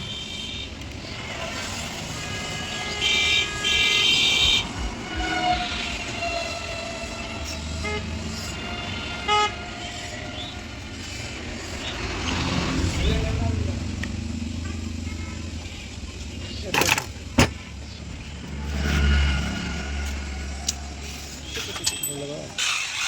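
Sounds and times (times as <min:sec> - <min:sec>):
vehicle horns honking: 0:00.0 - 0:15.9, 0:16.8 - 0:22.3
traffic rumble: 0:00.0 - 0:23.0.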